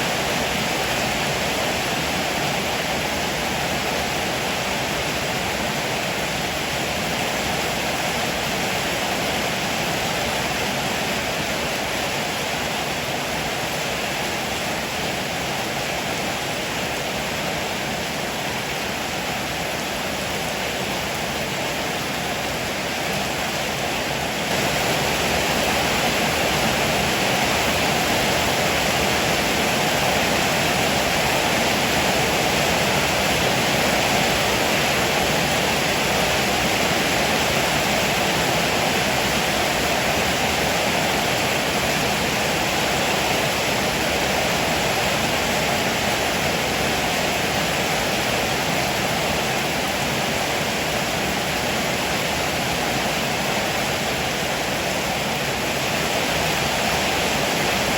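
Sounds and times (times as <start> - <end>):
heavy rain on a roof: 0.0 - 57.9.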